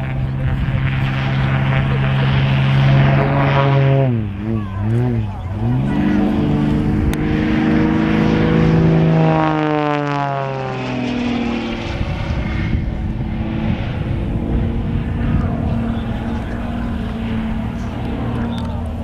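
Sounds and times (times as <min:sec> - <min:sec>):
propeller plane engine passing: 0:00.0 - 0:19.0.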